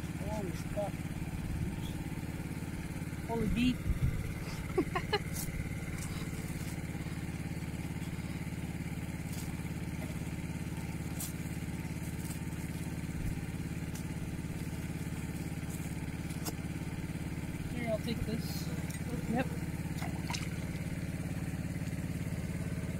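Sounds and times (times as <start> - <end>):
pump engine running: 0.0 - 22.9.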